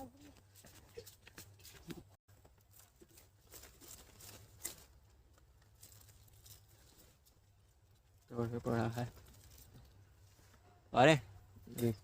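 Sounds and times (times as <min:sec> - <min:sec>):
faint clicks and rustles: 0:00.0 - 0:10.8.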